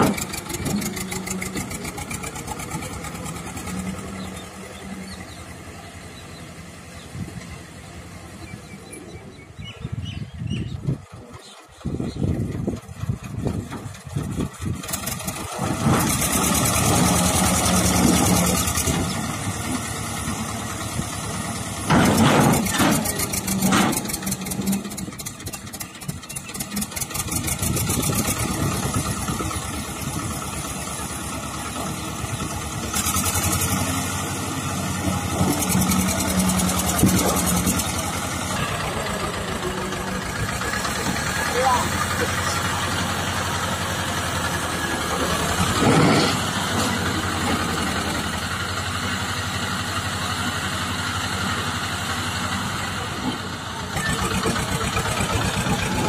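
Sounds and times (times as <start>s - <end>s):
tractor diesel engine labouring: 0.0s - 56.0s.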